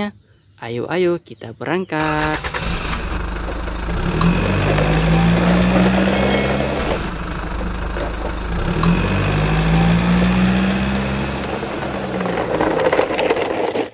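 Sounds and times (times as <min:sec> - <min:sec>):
truck engine drone: 0:02.0 - 0:13.8.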